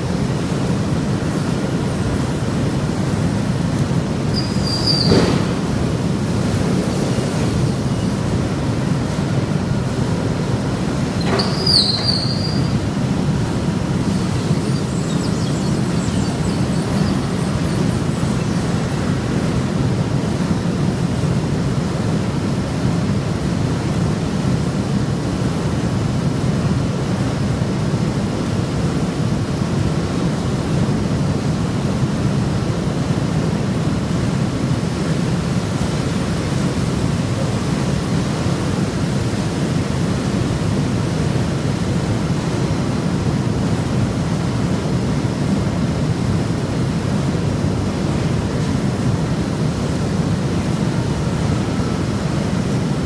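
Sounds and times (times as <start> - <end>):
machinery humming: 0.0 - 53.0.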